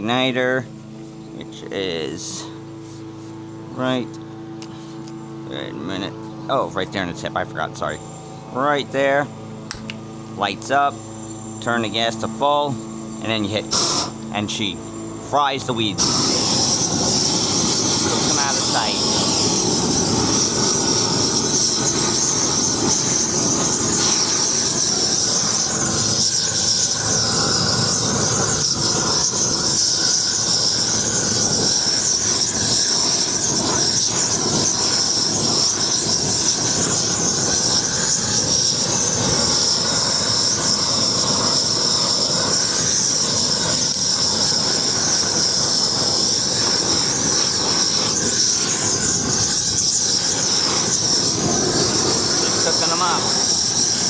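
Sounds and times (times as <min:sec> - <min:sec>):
gas torch jet hissing: 0:01.0 - 0:04.0, 0:06.5 - 0:54.0.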